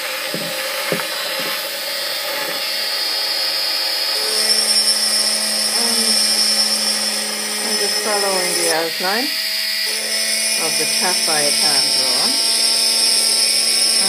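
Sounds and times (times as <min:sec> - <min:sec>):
drill bit grinding into glass: 0:00.0 - 0:14.0
rotary drill whining: 0:00.0 - 0:14.0.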